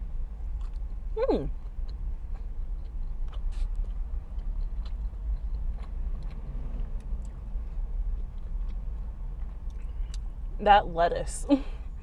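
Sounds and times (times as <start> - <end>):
steady low hum: 0.0 - 12.0
chewing: 0.5 - 10.3.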